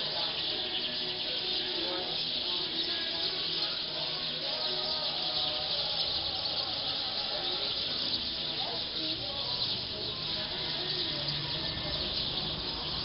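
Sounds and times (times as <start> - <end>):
flock of birds chattering: 0.0 - 13.0.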